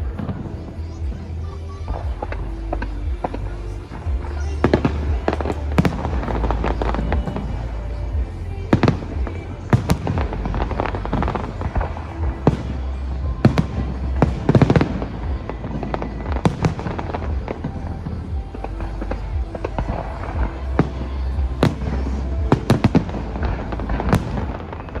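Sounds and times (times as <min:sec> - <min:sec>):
display music: 0:00.0 - 0:25.0.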